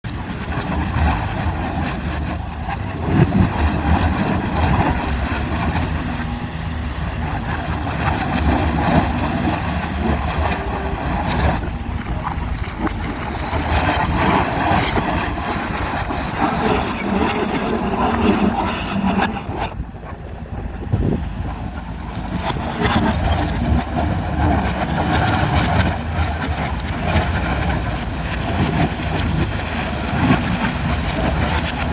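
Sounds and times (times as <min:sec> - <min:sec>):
excavator engines rumbling: 0:00.1 - 0:31.9.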